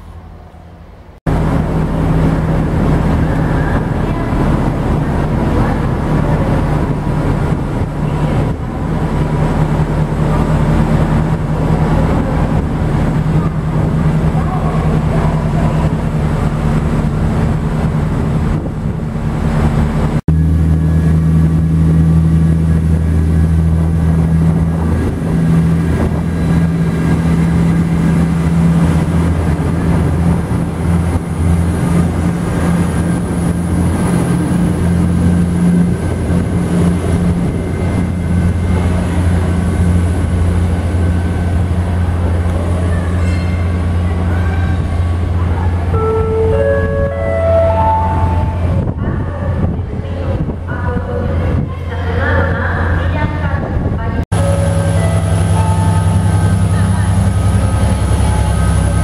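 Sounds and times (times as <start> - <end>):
train engines droning: 0.0 - 59.0.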